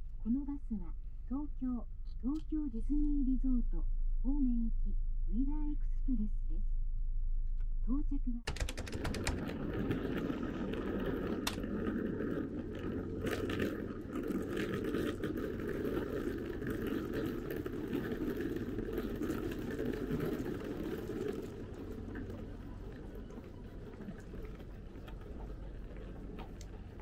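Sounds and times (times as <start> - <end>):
low rumble of city: 0.0 - 27.0.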